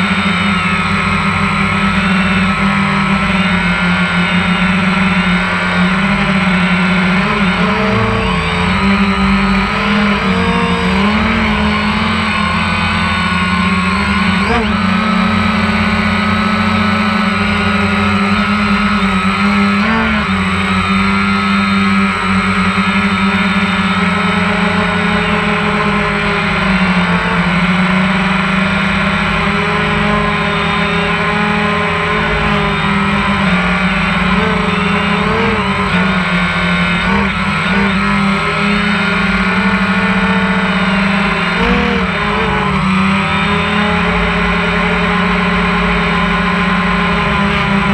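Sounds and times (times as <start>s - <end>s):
drone propellers whining: 0.0s - 47.9s.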